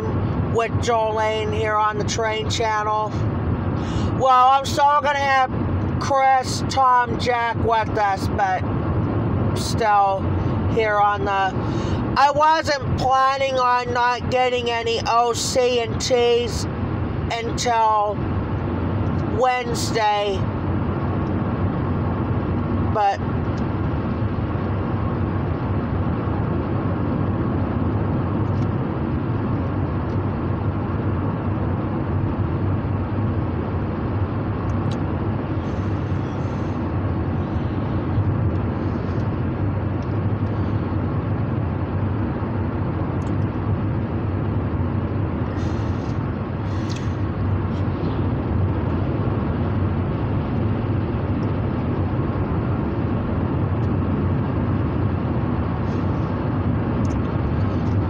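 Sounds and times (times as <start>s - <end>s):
car cabin road and engine noise: 0.0s - 58.0s.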